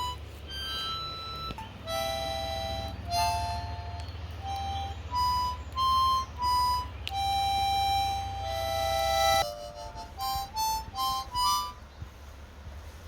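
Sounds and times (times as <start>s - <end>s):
harmonica playing slow tune: 0.0s - 12.5s
steady low rumble: 0.0s - 13.0s.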